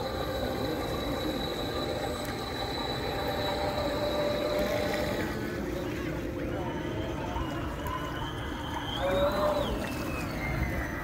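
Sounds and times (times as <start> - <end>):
model boat motors whining: 0.0 - 11.0
water churning: 0.0 - 11.0.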